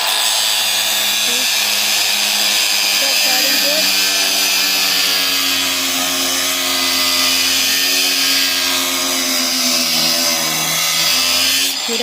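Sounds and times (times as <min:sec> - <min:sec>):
power saw cutting wood: 0:00.0 - 0:12.0.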